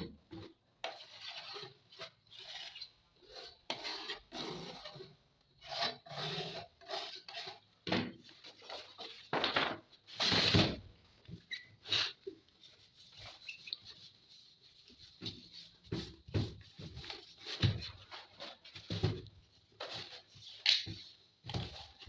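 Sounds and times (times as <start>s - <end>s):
rubbing and scraping on wood: 0.3s - 22.0s.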